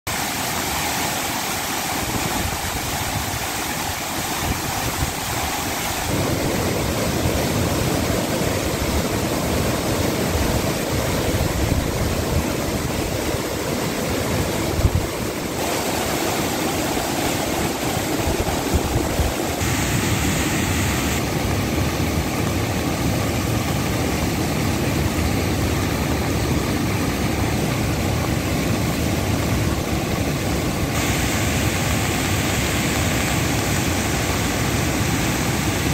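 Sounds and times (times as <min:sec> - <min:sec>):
water rushing through spillway: 0:00.1 - 0:35.9.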